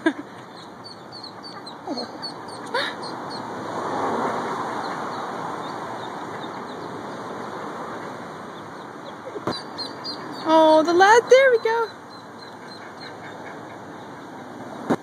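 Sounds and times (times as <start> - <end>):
ducklings peeping: 0.3 - 3.6, 4.6 - 14.9.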